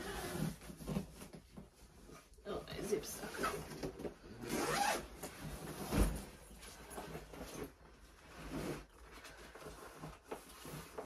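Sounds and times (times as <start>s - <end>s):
rustling and scraping: 0.0s - 11.0s.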